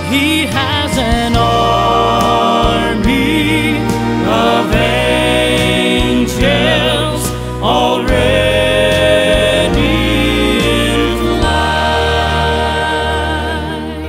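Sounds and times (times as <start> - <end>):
slow christian song: 0.0 - 14.0.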